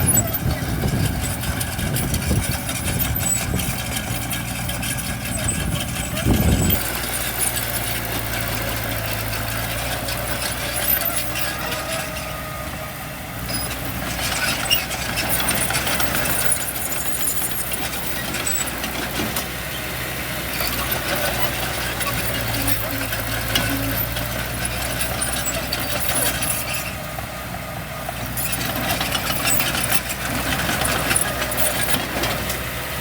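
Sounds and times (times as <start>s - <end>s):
heavy diesel engines idling: 0.0s - 33.0s.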